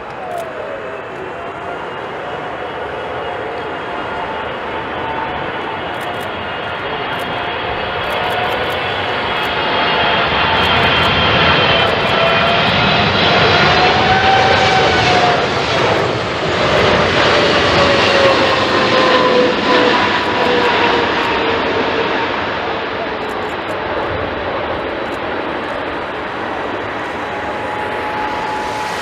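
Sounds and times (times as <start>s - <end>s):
jet engine roar with whine: 0.0s - 29.0s.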